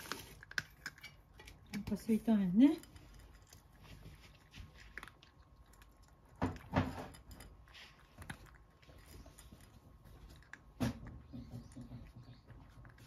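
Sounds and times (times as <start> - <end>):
cat crunching dry kibble: 0.0 - 13.0.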